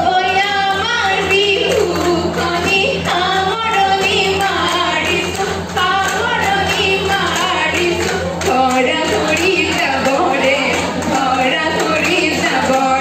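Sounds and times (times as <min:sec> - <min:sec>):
steady low hum: 0:00.0 - 0:13.0
women singing folk song: 0:00.0 - 0:13.0.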